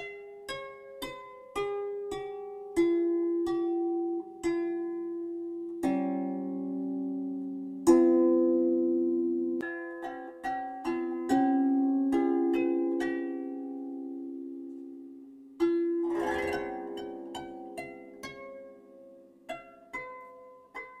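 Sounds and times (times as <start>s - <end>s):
plucked harp-like melody: 0.0s - 21.0s.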